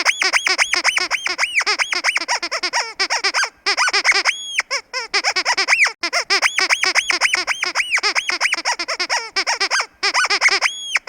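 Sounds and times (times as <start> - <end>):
squeaky dog toy squeaking: 0.0 - 11.0.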